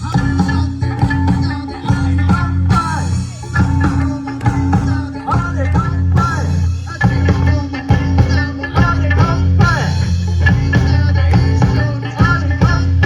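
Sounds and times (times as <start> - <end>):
bass line: 0.0 - 13.0
live rock band playing: 0.0 - 13.0.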